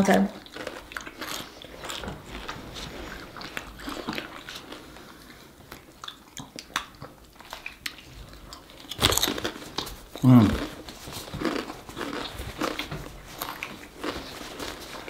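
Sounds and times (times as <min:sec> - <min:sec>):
biting and chewing food: 0:00.3 - 0:15.0.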